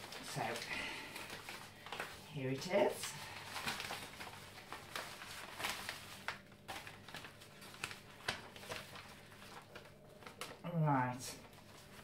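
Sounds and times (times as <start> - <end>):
envelope rustling and crinkling: 0.0 - 12.0.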